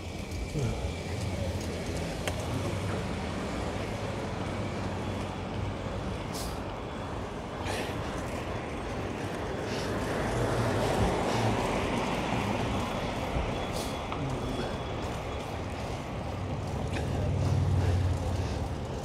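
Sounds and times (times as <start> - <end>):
city street traffic: 0.0 - 19.0
heavy vehicle engine running: 0.0 - 19.0.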